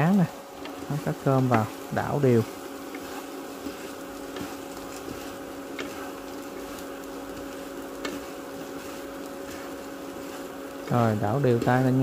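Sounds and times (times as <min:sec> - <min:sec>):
light sizzle in frying pan: 0:00.0 - 0:12.0
steady hum: 0:00.0 - 0:12.0
spatula scraping pan: 0:00.6 - 0:12.0.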